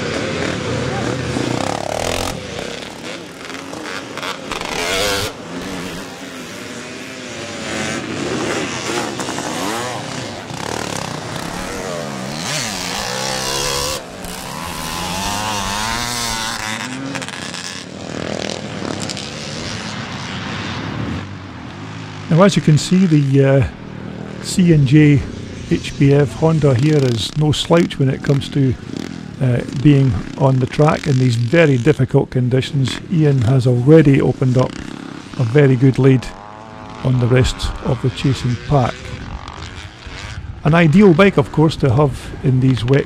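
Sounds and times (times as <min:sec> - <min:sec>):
motorcycles racing past: 0:00.0 - 0:43.0.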